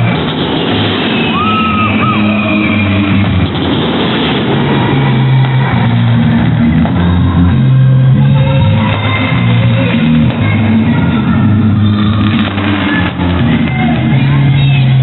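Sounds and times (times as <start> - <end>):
loud rock music: 0.0 - 15.0.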